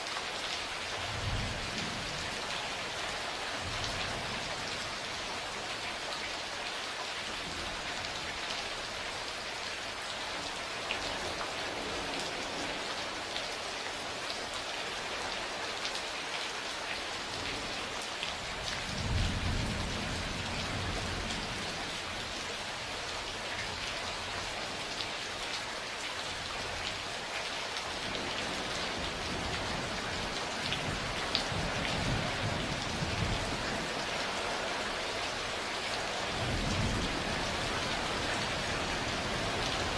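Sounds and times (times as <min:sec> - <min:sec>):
heavy rain hissing and pattering: 0:00.0 - 0:39.9.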